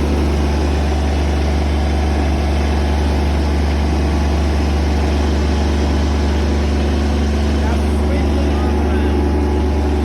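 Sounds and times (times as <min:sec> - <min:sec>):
heavy equipment engine droning: 0:00.0 - 0:10.0.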